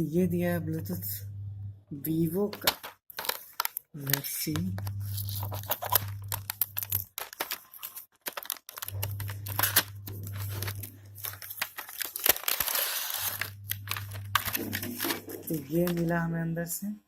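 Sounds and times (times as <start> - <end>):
low steady hum: 0.0 - 2.9, 4.0 - 7.1, 8.8 - 17.0
packaging crinkling and rustling: 2.5 - 16.2.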